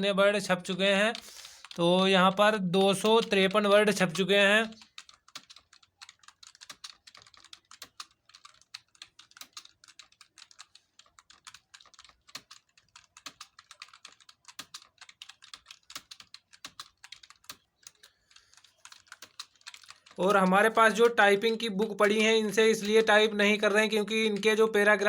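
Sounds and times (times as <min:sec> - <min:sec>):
fast typing on a keyboard: 0:00.0 - 0:25.0.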